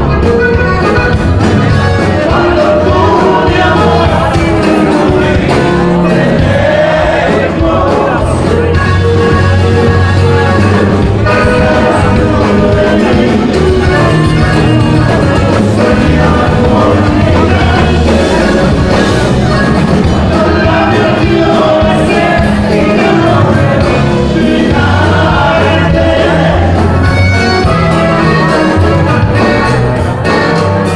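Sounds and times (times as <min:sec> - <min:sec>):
band playing live: 0:00.0 - 0:30.9
person singing: 0:01.9 - 0:29.8.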